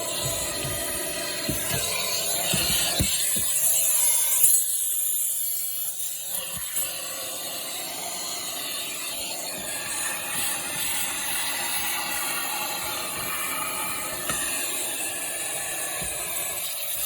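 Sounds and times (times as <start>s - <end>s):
electric fuel pump whining: 0.0s - 17.0s.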